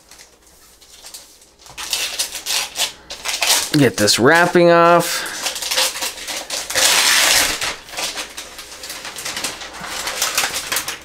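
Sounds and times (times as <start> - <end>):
plastic sleeve crinkling: 0.0 - 11.0.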